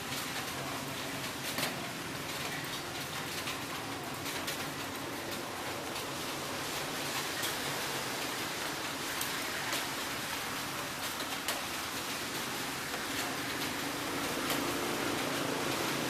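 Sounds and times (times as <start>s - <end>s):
heavy rain hiss: 0.0s - 16.0s
raindrops clicking close: 0.0s - 16.0s.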